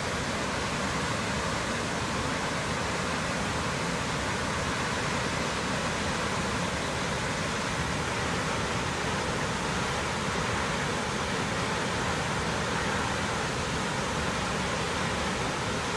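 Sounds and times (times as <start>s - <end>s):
rush of falling water: 0.0s - 15.9s.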